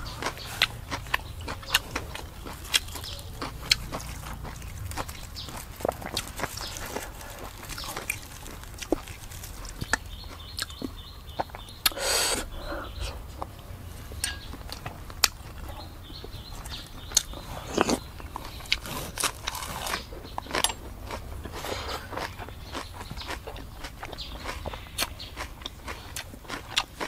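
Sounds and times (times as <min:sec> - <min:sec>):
lettuce crunching: 0:00.0 - 0:12.3, 0:14.2 - 0:27.0
chewing: 0:00.0 - 0:27.0.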